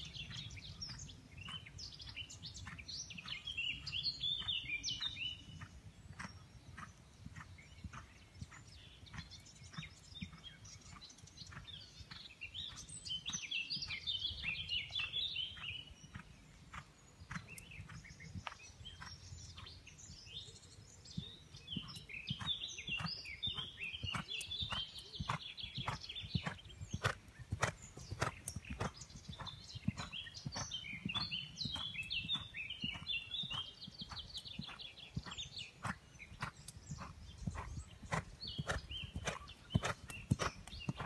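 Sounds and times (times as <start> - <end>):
songbird chirping song: 0.0 - 41.0
horse hoofbeats on sand: 0.1 - 20.1, 21.1 - 41.0.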